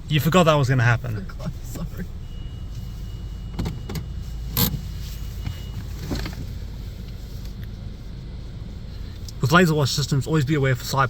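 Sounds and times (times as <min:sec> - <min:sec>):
car wash low rumble: 0:00.0 - 0:11.0.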